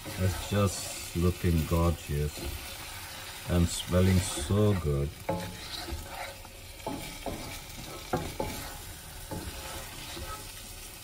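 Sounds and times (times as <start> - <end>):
meat sizzling: 0.0 - 11.0
wooden spatula scraping a wok: 0.0 - 11.0.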